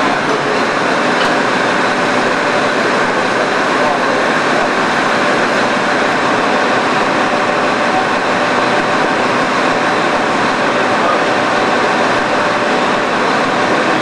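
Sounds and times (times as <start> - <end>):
loud mechanical drone and hiss: 0.0 - 14.0.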